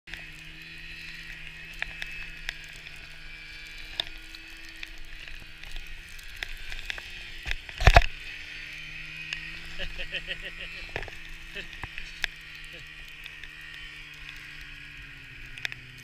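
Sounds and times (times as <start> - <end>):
scattered clicks: 0.1 - 16.0
snowmobile engine running: 0.1 - 16.0
skis hissing over snow: 0.4 - 16.0.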